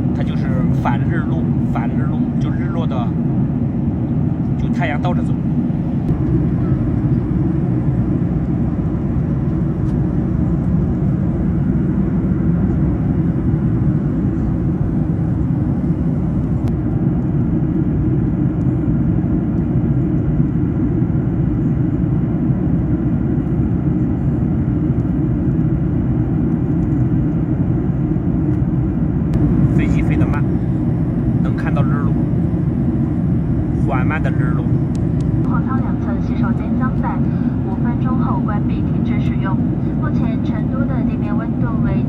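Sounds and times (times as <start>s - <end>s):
airliner cabin drone: 0.0s - 42.0s.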